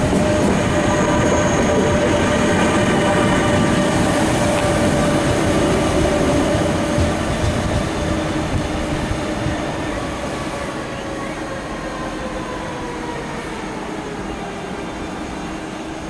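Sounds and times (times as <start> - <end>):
electric locomotive whine: 0.0 - 16.0
train rolling noise: 0.0 - 16.0.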